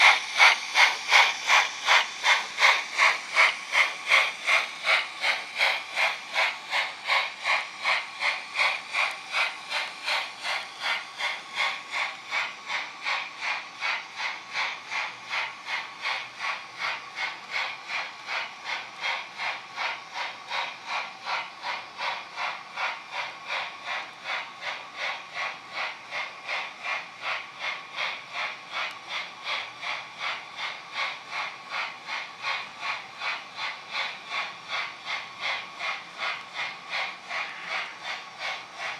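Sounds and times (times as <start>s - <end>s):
model steam locomotive chuffs from speaker: 0.0s - 38.9s.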